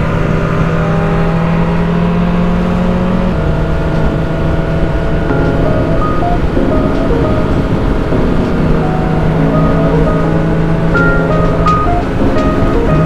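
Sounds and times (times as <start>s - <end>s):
wind rumble on microphone: 2.3s - 13.0s.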